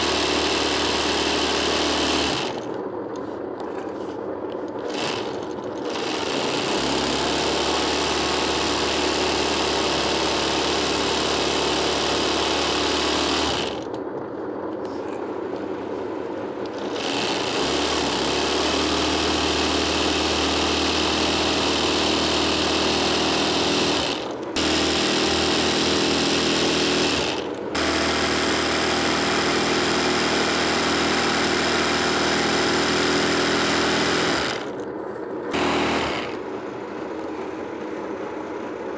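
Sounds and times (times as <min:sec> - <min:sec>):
sewing machine stitching: 0:00.0 - 0:02.8, 0:04.7 - 0:13.9, 0:16.6 - 0:34.8, 0:35.5 - 0:36.6.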